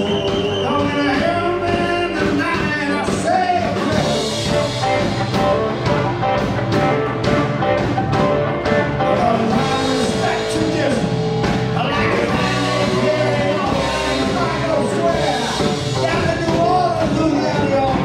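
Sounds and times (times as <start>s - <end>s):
blues-rock band playing: 0.0s - 18.0s.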